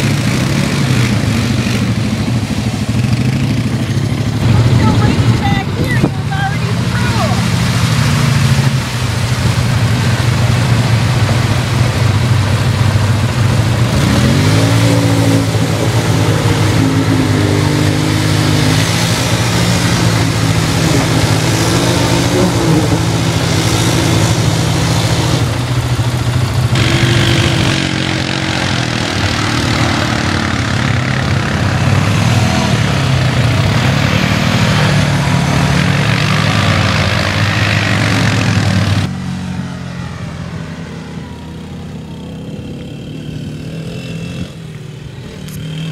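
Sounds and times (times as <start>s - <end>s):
atv engine revving: 0.0s - 45.9s.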